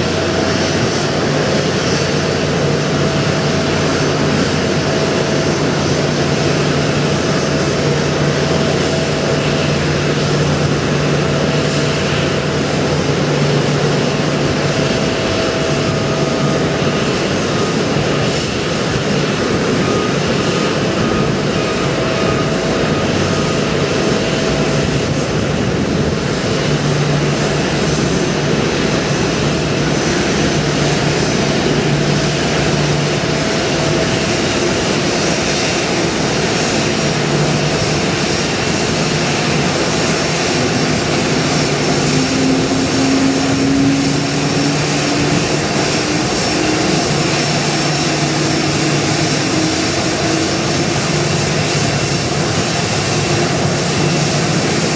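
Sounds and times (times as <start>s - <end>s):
jet engines idling: 0.0s - 54.9s.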